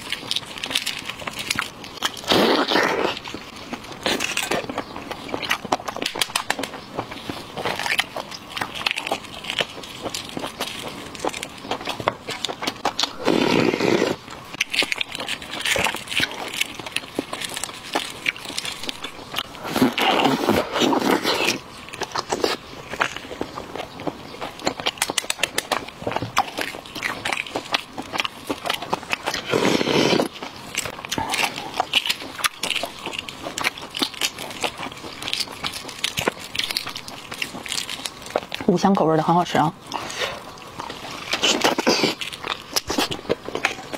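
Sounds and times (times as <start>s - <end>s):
eating sounds: 0.0s - 43.9s
eggshell crackling as peeled: 0.0s - 43.9s.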